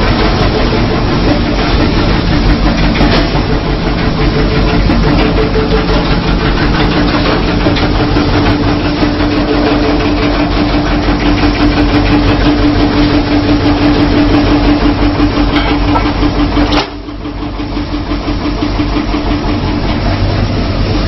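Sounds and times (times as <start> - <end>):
fast rhythmic machine clatter: 0.0 - 21.0
machinery droning hum: 0.0 - 21.0.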